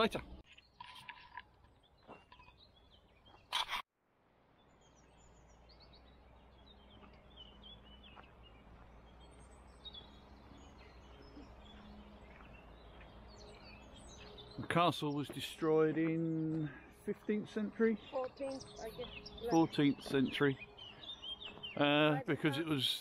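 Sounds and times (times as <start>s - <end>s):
birds chirping: 0.0s - 3.8s, 4.4s - 23.0s.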